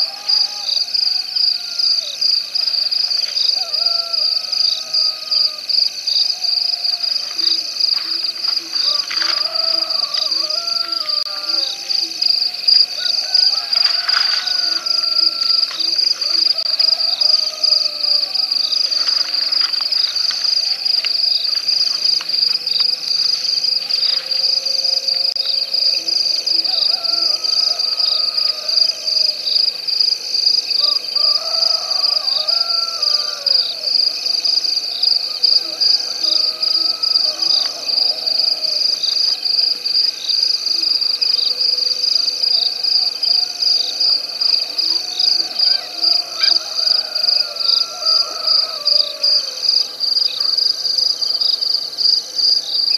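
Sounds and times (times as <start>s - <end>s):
crickets trilling: 0.0s - 52.9s
pulsing insect call: 0.0s - 52.9s.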